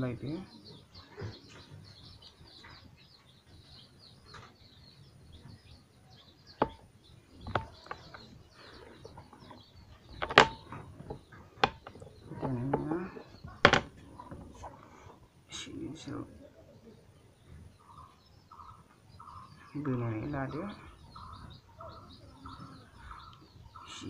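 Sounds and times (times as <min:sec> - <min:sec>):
faint bird chirping: 0:00.0 - 0:24.0.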